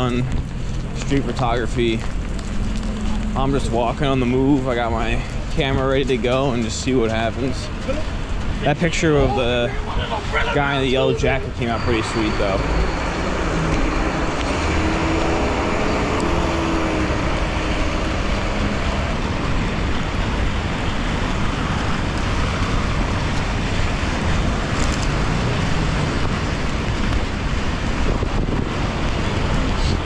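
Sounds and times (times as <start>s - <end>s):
low traffic rumble: 0.0s - 30.0s
tyres hissing on wet road: 0.0s - 30.0s.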